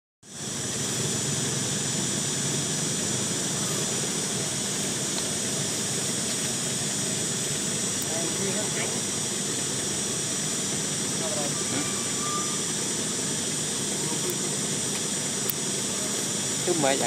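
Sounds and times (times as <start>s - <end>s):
high hiss: 0.3s - 17.0s.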